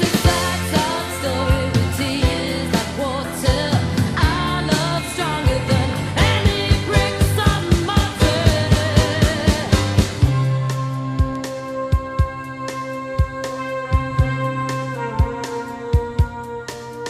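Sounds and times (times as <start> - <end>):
pop band playing: 0.0 - 17.0.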